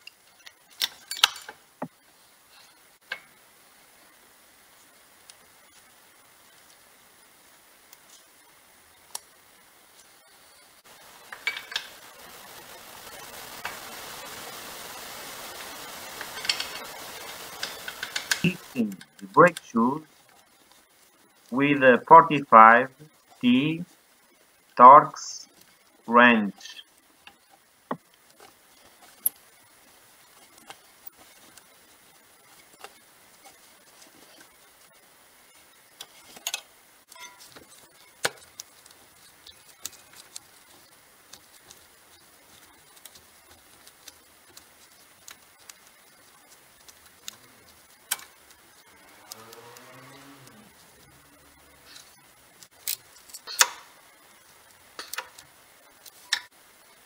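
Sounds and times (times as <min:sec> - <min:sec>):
background hiss: 0:00.0 - 0:57.0.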